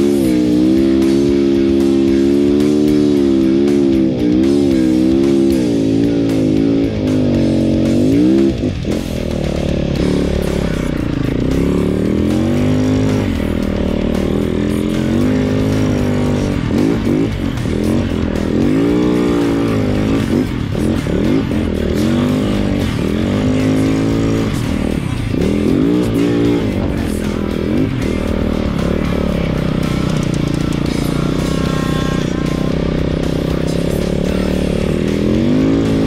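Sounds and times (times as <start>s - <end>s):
background music: 0.0s - 36.0s
snow bike engine revving: 0.0s - 36.0s.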